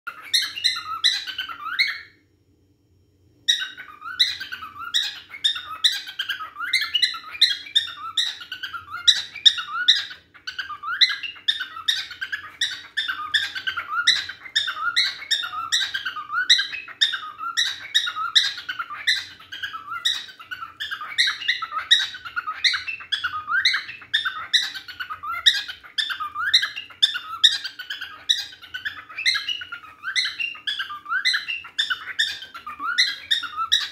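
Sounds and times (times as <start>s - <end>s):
cockatiel warbling chirps: 0.1s - 2.2s, 3.5s - 33.9s.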